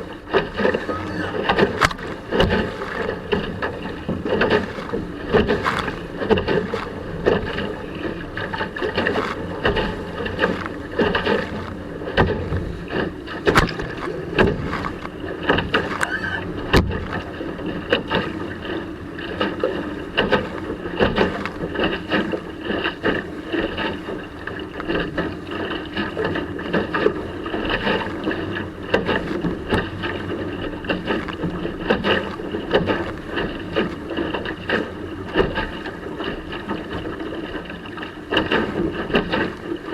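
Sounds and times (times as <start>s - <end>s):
hull slapping through water: 0.0s - 39.9s.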